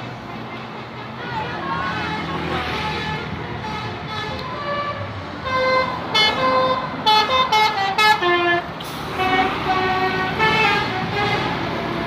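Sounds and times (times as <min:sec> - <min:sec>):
musical bus horn playing a tune: 0:00.6 - 0:12.0.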